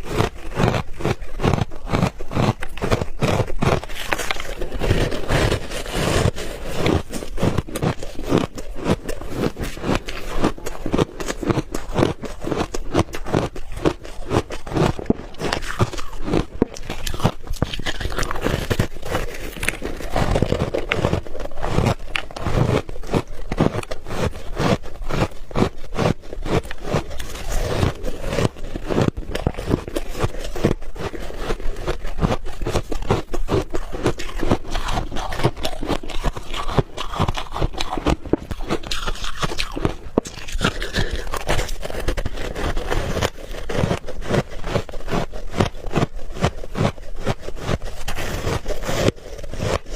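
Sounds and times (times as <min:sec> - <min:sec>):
person chewing and crunching ice: 0:00.0 - 0:49.9.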